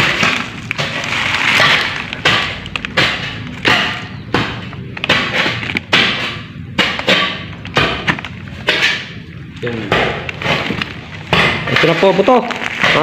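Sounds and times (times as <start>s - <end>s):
tools striking soil and rubble: 0.0s - 9.2s, 9.8s - 13.0s.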